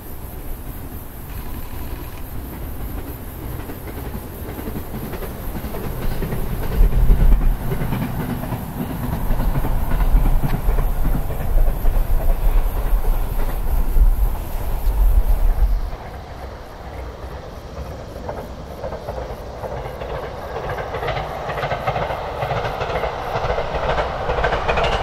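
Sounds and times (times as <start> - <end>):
distant electric train running: 0.0 - 25.0
wind buffeting microphone: 0.3 - 25.0.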